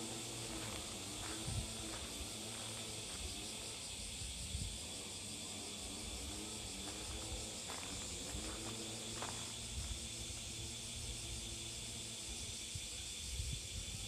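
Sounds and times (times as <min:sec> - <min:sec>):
high insect hiss: 0:00.0 - 0:14.0.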